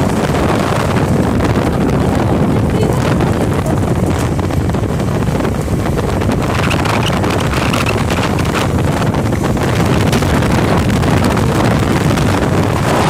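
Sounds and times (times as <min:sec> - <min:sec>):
motorbike engine and road noise: 0:00.0 - 0:13.0
wind buffeting microphone: 0:00.0 - 0:13.0.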